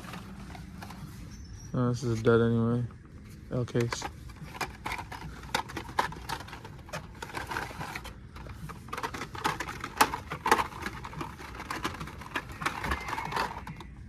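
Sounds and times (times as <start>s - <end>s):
toy cars in packaging clacking: 0.0s - 1.2s, 3.6s - 14.0s.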